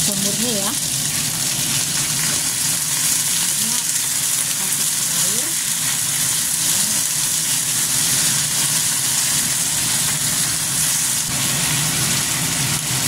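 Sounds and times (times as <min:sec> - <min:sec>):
food sizzling in a frying pan: 0:00.0 - 0:13.0
low mechanical hum: 0:00.0 - 0:13.0.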